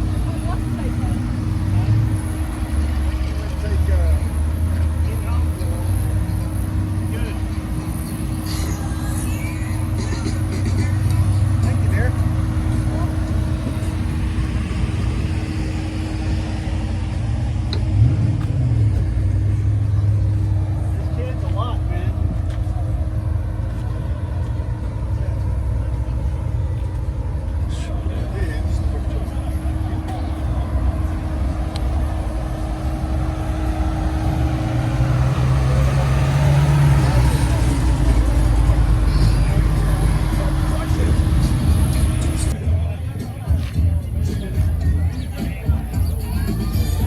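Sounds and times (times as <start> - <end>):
car engine idling: 0.0 - 47.0
deep rumble: 0.0 - 47.0.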